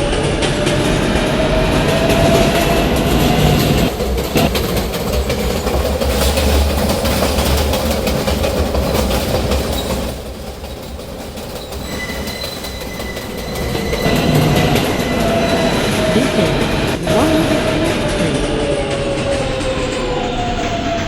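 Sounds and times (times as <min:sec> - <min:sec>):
high whine of slowing train: 0:00.0 - 0:21.0
subway train rumble: 0:00.0 - 0:21.0.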